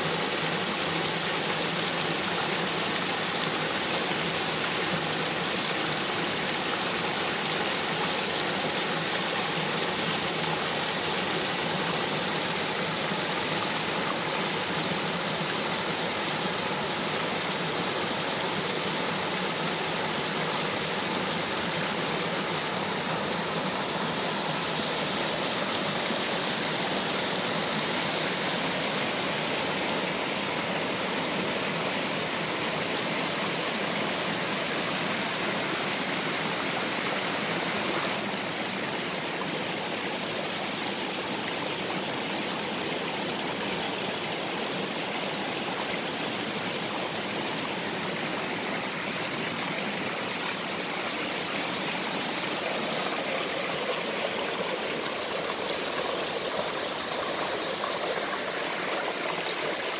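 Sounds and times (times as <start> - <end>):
water falling and rushing: 0.0 - 59.9.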